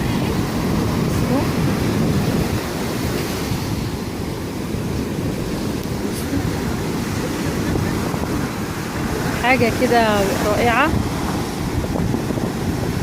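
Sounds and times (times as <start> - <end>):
sea surf washing: 0.0 - 13.0
wind rumbling on microphone: 0.0 - 13.0.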